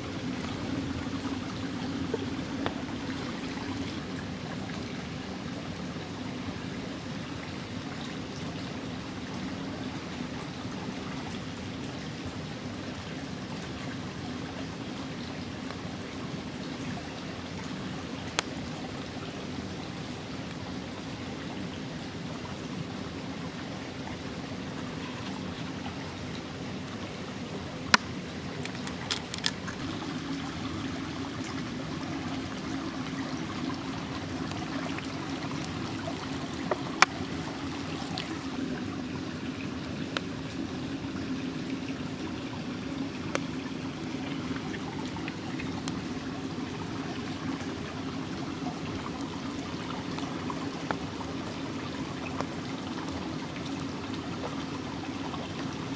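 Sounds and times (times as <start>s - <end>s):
small stream running: 0.0s - 55.9s.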